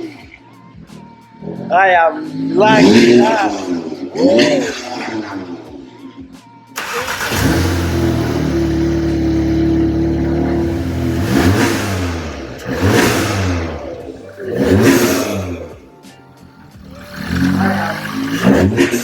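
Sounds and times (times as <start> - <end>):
car engine revving: 1.4 - 5.7, 6.8 - 19.0.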